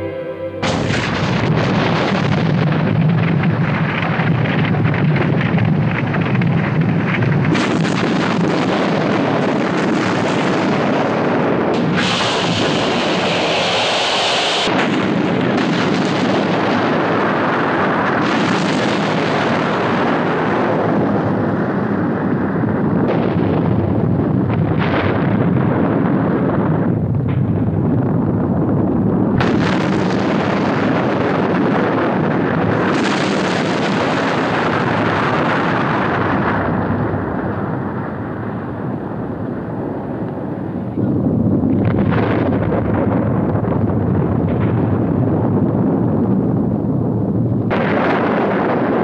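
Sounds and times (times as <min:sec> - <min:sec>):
roar of explosions: 0:00.6 - 0:49.0.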